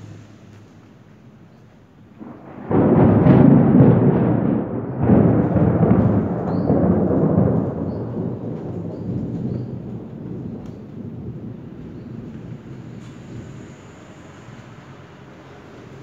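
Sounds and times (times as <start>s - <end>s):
thunder crack and rumble: 2.0s - 16.0s.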